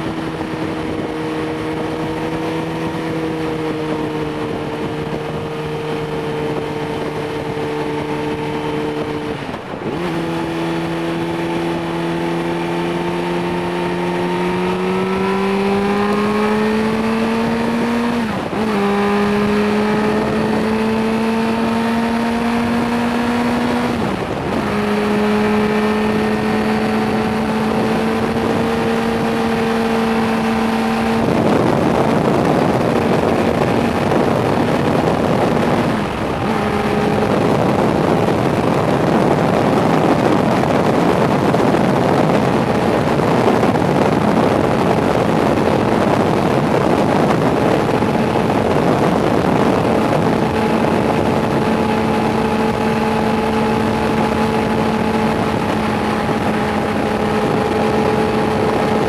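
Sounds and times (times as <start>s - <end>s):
motorcycle engine revving under load: 0.0s - 59.0s.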